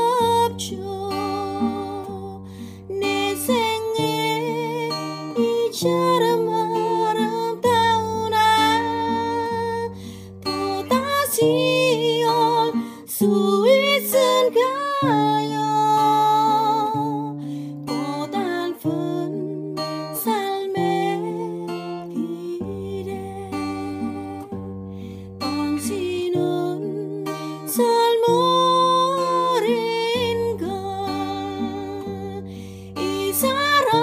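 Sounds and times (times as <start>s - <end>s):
person singing: 0.0s - 24.5s, 25.4s - 34.0s
fingerpicked acoustic guitar: 0.0s - 34.0s.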